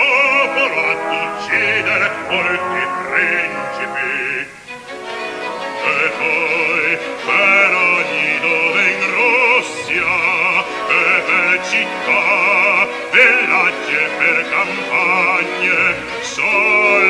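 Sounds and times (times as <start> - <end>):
male operatic voice singing: 0.0 - 17.0
orchestra playing: 0.0 - 17.0.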